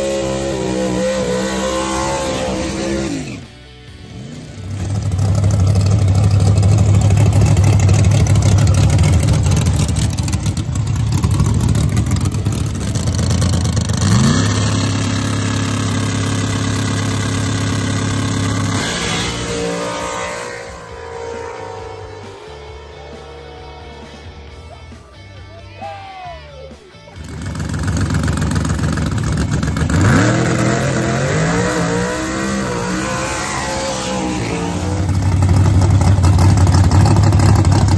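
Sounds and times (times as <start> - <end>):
drag car engine revving loud: 0.0 - 24.3, 27.2 - 37.9.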